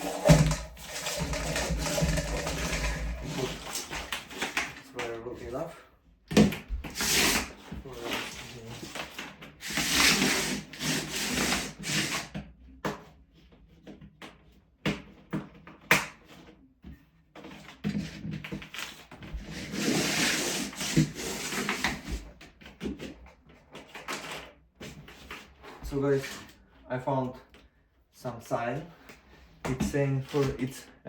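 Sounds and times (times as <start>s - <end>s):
rubbing and scraping handling noise: 0.0s - 5.7s, 6.8s - 12.4s, 15.8s - 31.0s.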